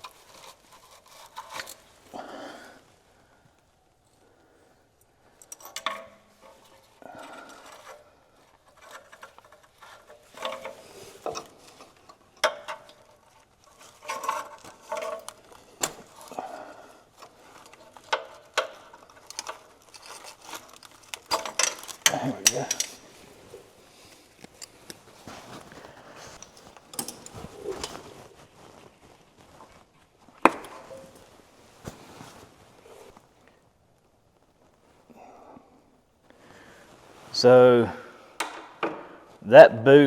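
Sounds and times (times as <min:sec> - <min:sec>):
hands twisting rubber boot: 0:00.0 - 0:04.2, 0:05.0 - 0:35.1.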